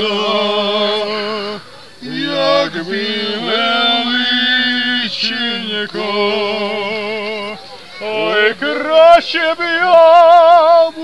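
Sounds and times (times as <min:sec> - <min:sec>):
group singing folk song: 0:00.0 - 0:11.0.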